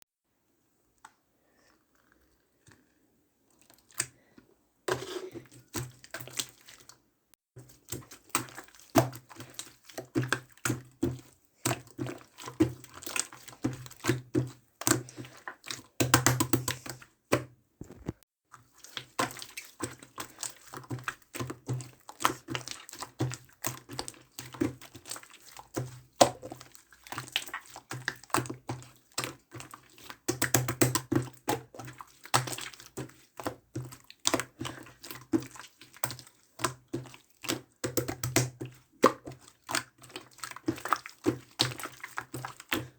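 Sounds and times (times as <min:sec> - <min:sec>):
slime squelching by hand: 0:01.0 - 0:07.0, 0:07.6 - 0:42.9.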